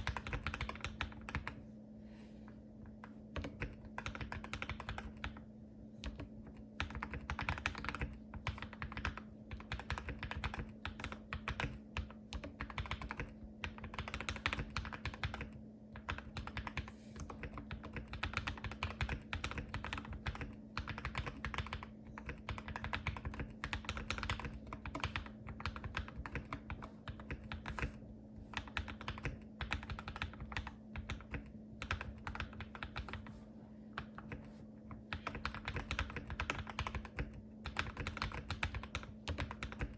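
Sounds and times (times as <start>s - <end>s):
mechanical keyboard typing: 0.0s - 1.6s, 2.9s - 33.4s, 34.0s - 39.9s.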